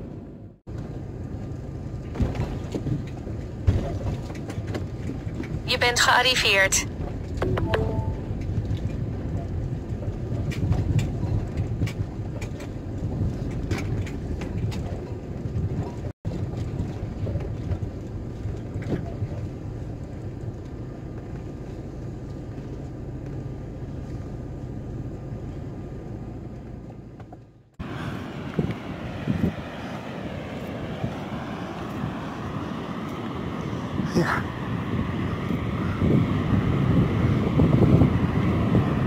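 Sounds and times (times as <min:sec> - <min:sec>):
vehicle engine and road rumble: 0:00.0 - 0:39.0.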